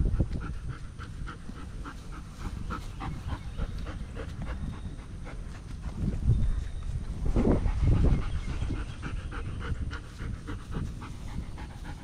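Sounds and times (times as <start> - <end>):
dog panting: 0.0 - 6.3, 7.5 - 12.0.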